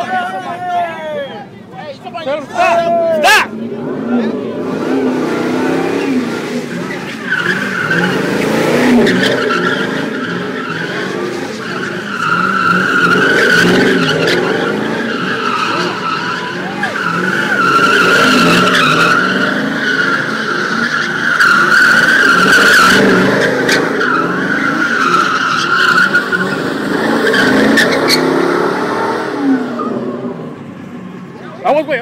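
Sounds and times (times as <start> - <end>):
car engine running hard: 2.2 - 32.0
car tires squealing: 2.4 - 31.4.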